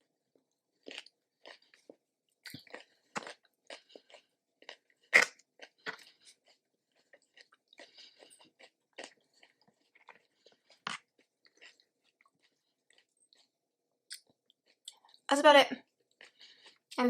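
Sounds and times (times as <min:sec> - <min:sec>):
person chewing food: 0:00.3 - 0:15.3, 0:15.9 - 0:17.0.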